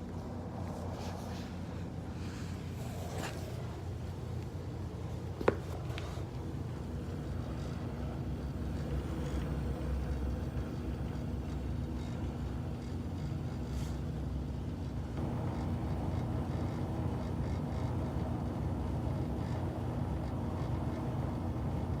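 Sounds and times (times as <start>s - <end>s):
gas furnace burners rumbling: 0.0s - 22.0s.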